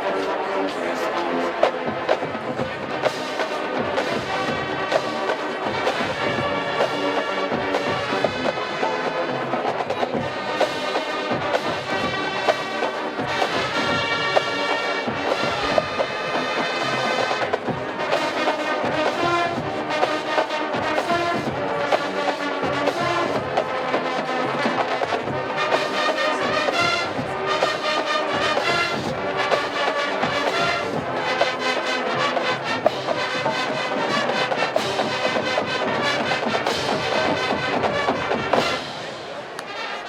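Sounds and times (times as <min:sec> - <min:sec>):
drumline beat: 0:00.0 - 0:40.0
marching band brass: 0:00.0 - 0:40.0.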